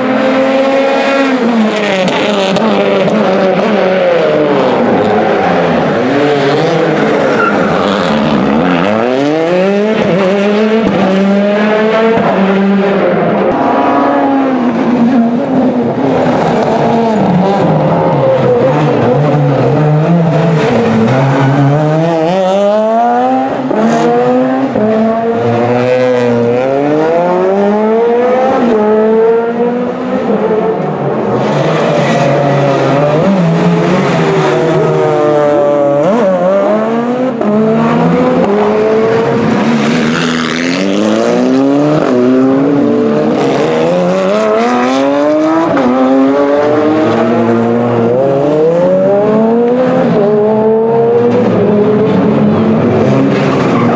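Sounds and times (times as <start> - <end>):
cars passing: 0.0 - 53.9
rally car engines revving: 0.0 - 53.9.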